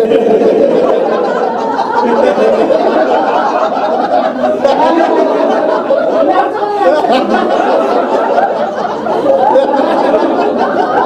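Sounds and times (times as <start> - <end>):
group of people laughing: 0.0 - 11.0.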